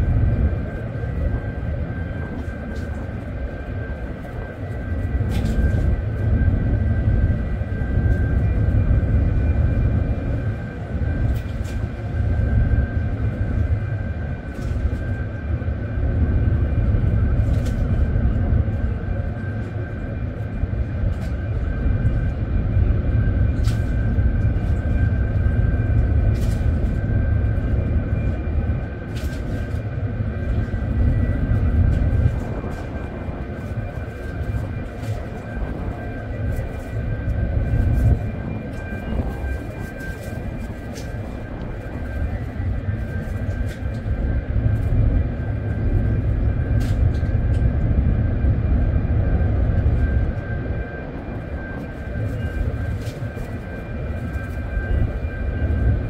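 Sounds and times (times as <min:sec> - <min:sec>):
faint steady whine: 0:00.0 - 0:56.0
ship machinery rumble: 0:00.0 - 0:56.0.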